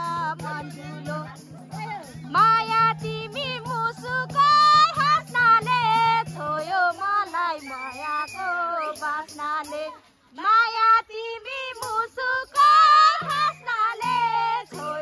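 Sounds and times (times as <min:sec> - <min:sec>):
music with faint regular beat: 0:00.0 - 0:09.9, 0:11.7 - 0:15.0.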